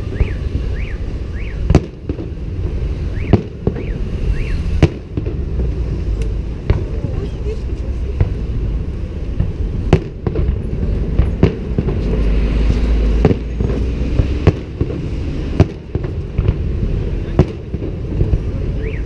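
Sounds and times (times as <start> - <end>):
fainter fireworks pops: 0.0 - 8.4, 9.3 - 19.0
fireworks bangs: 0.0 - 19.0
steady low rumble: 0.0 - 19.0.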